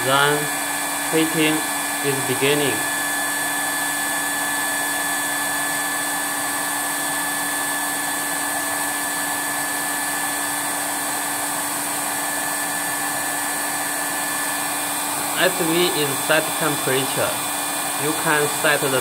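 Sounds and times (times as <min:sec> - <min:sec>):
blower rushing air: 0:00.0 - 0:19.0.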